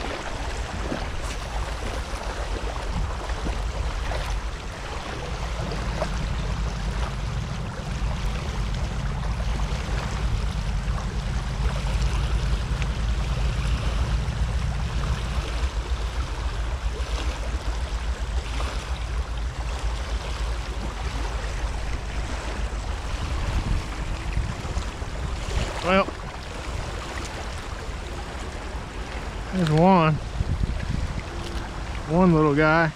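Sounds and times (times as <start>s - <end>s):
low rumble: 0.0s - 32.9s
water rushing through outflow: 0.0s - 32.9s.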